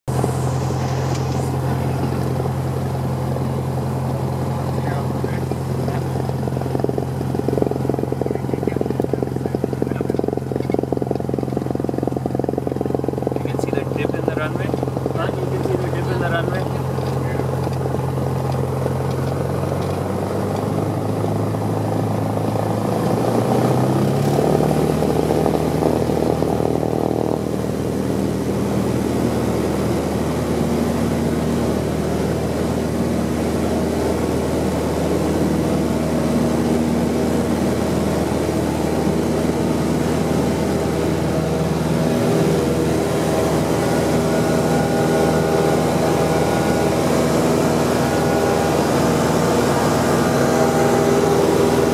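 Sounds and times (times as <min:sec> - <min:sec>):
light aircraft engine and propeller: 0:00.0 - 0:51.9.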